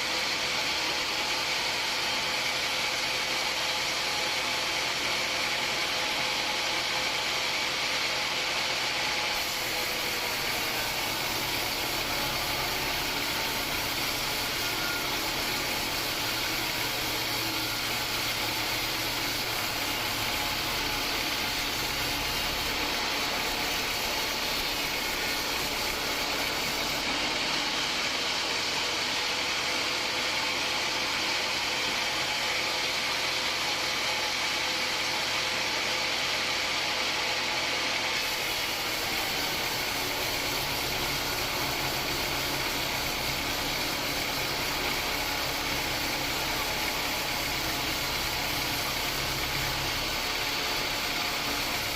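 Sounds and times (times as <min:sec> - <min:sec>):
band sawmill running: 0:00.0 - 0:51.9.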